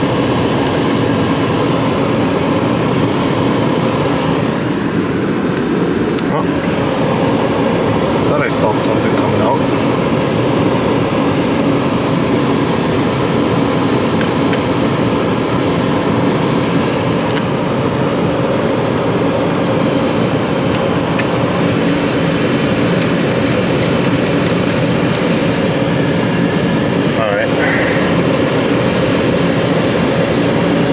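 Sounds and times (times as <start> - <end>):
car cabin fan hum: 0.0 - 30.9.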